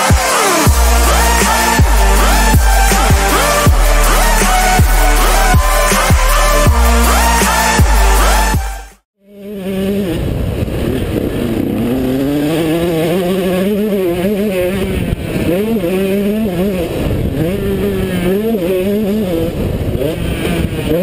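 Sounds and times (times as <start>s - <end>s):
two-stroke motorbike engine revving: 0.0s - 21.0s.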